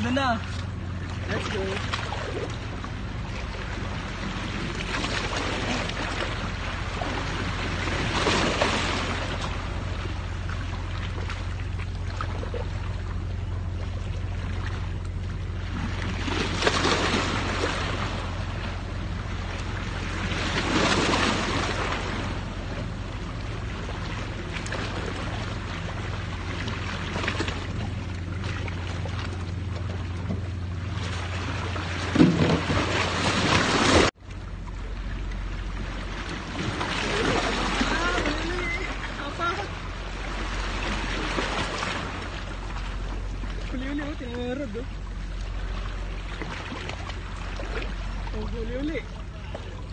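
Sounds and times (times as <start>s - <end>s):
wind and surf: 0.0s - 49.9s.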